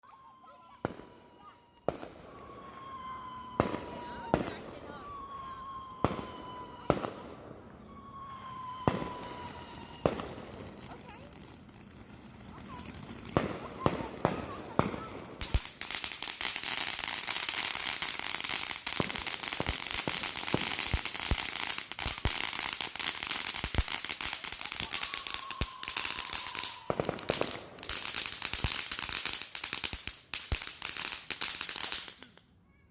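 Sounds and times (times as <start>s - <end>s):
fireworks crackling and banging: 0.1s - 32.5s.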